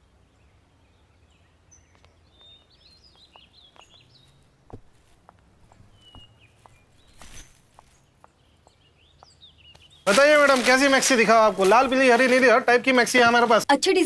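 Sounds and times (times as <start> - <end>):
small birds twittering: 0.0 - 13.7.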